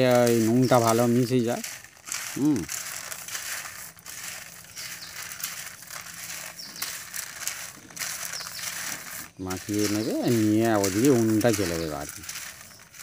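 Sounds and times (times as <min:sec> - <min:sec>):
chickpeas rattling on steel plate: 0:00.0 - 0:13.0.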